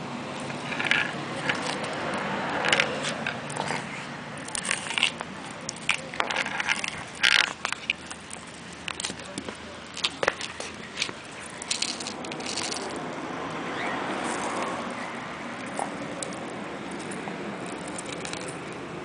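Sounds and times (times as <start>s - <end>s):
tortoise crunching corn cob: 0.3s - 19.0s.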